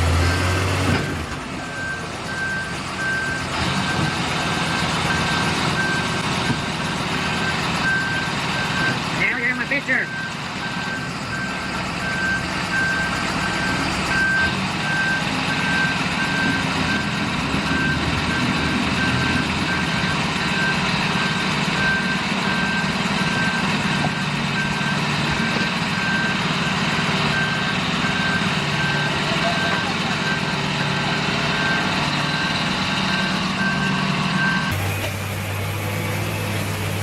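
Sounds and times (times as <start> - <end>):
diesel engine running: 0.0 - 37.0
reversing alarm beeping: 0.1 - 34.9.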